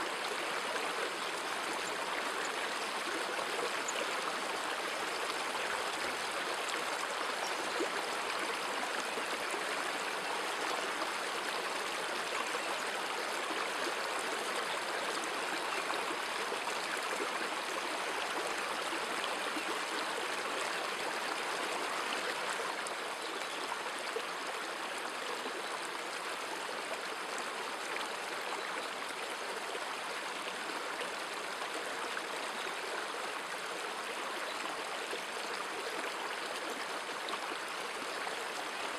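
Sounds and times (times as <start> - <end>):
flowing stream: 0.0 - 38.9.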